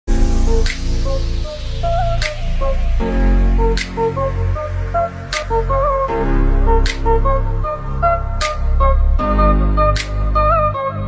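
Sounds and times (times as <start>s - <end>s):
deep bass line: 0.1s - 11.0s.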